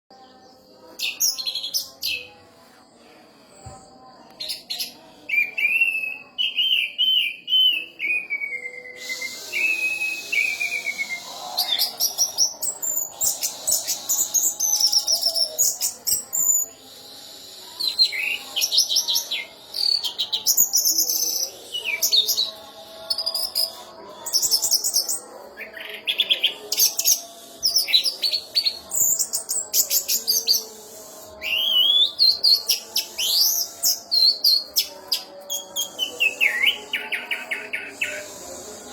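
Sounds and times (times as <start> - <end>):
thrush singing varied song: 0.0 - 38.9.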